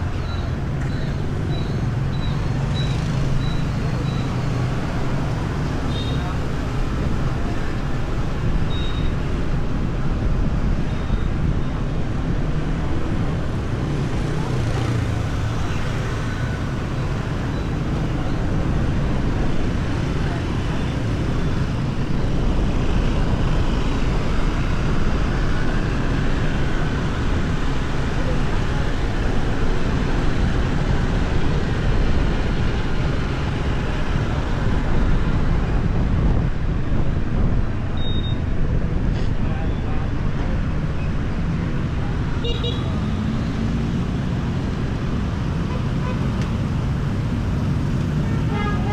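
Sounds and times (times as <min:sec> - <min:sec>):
road and traffic noise: 0:00.0 - 0:48.9.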